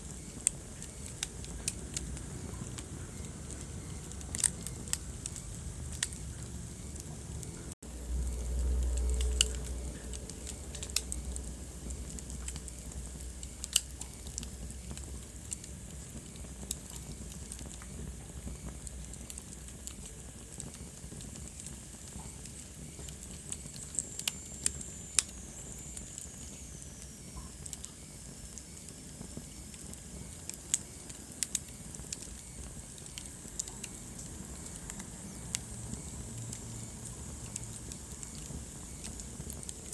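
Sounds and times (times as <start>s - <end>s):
soft fire hiss: 0.0s - 39.9s
wood fire crackling: 0.0s - 39.9s.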